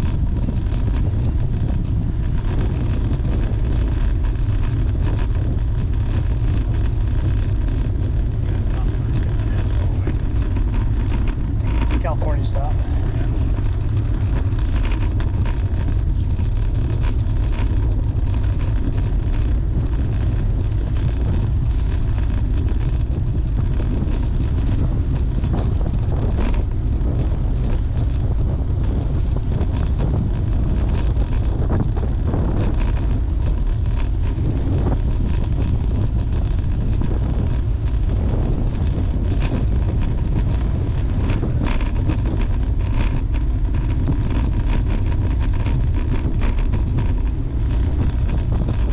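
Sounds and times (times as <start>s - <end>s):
bicycle clicks and rattles: 0.0s - 48.9s
wind buffeting microphone: 0.0s - 48.9s.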